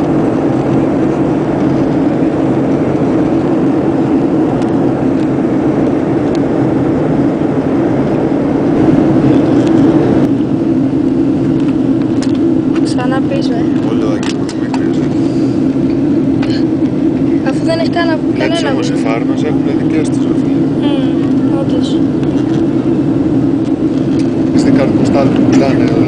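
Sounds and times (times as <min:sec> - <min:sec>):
aircraft cabin engine roar: 0:00.0 - 0:26.0.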